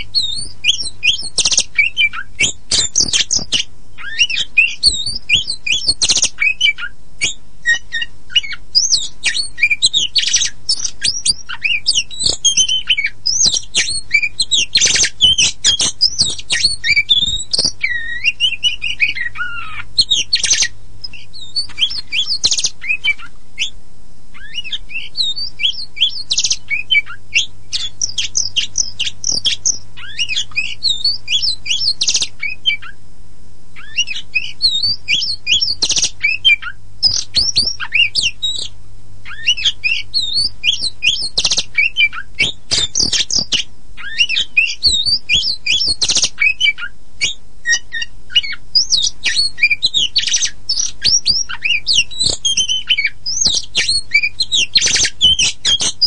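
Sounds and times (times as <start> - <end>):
bird singing varied whistles: 0.0 - 23.8, 24.4 - 33.0, 33.8 - 56.0.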